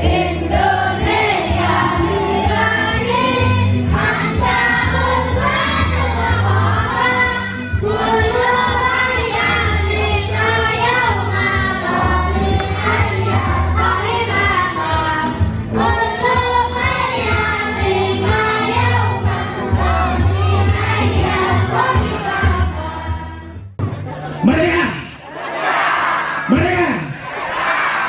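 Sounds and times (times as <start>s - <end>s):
group singing in chorus: 0.0s - 23.5s, 25.2s - 26.5s, 27.2s - 28.0s
musical accompaniment with bass line: 0.0s - 24.7s.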